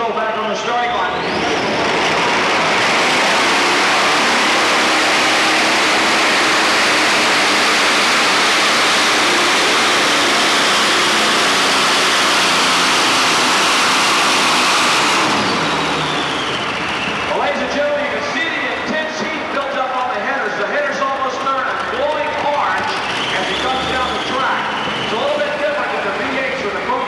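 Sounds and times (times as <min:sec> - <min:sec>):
tractor engine roaring: 0:00.0 - 0:27.0.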